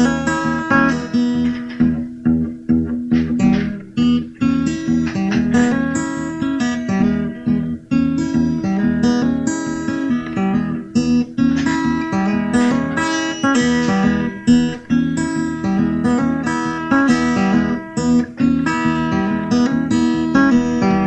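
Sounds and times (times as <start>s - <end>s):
instrumental music with strummed guitar: 0.0s - 21.0s.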